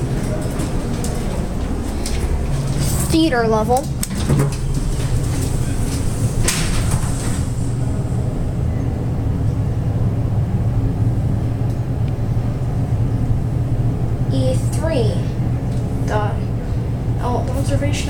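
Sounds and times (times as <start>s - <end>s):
elevator humming: 0.0s - 18.0s.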